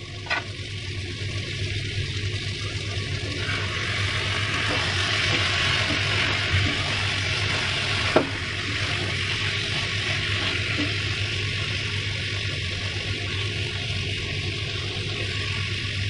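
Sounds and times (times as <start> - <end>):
low steady hum: 0.0 - 16.0
stew sizzling in a frying pan: 0.0 - 16.0.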